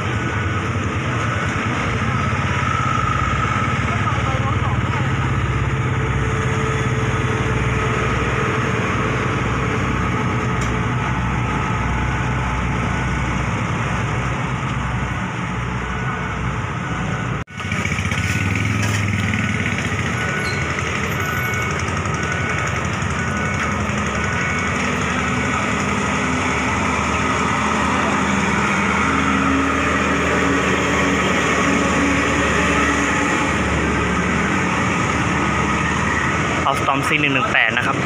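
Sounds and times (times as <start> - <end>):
mechanical drone: 0.0 - 38.0
train engine rumble: 0.0 - 38.0.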